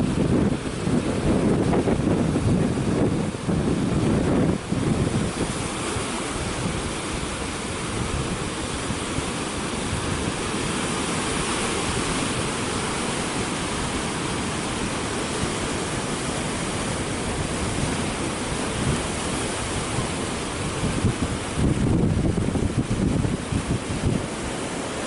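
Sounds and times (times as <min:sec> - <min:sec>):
surf breaking over rocks: 0:00.0 - 0:25.0.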